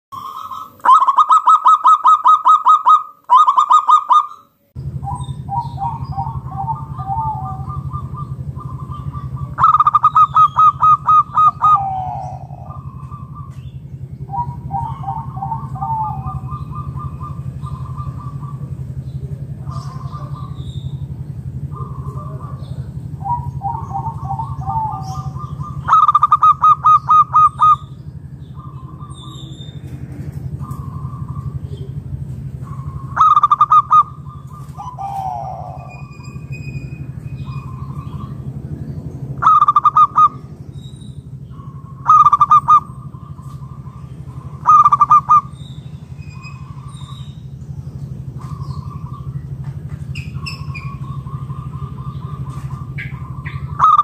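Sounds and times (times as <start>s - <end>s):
steady low hum: 0.1s - 54.0s
dove cooing: 0.2s - 54.0s.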